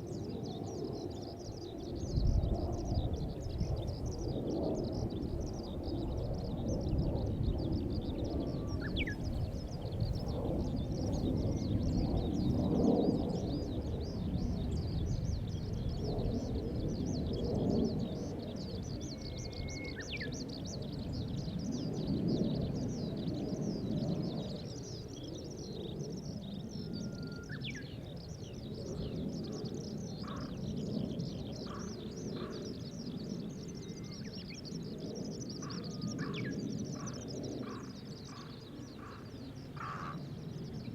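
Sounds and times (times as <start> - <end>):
distant jet engine rumble: 0.0 - 40.9.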